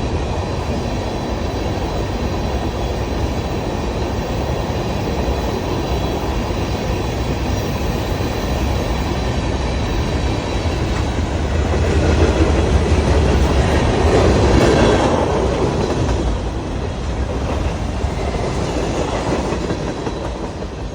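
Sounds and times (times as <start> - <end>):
train rumbling past on rails: 0.0 - 20.9.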